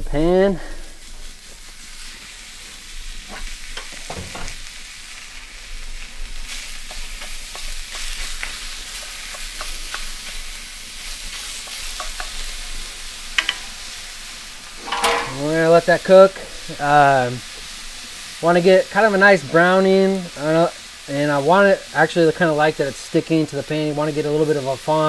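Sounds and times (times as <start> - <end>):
meat sizzling in a skillet: 0.0 - 25.0.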